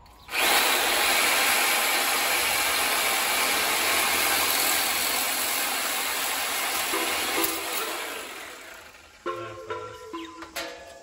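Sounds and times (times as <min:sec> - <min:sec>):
power tool cutting metal: 0:00.0 - 0:09.2.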